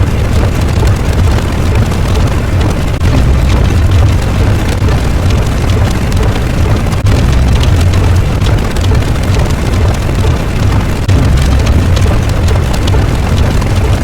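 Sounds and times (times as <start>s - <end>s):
loud rumbling with crackling: 0.0s - 14.0s.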